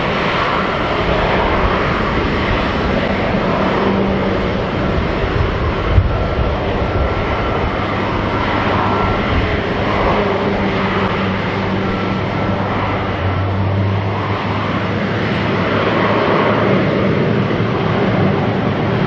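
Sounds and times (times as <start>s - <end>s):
airliner turbine rumble: 0.0s - 19.0s
thin turbine whine: 0.0s - 19.0s.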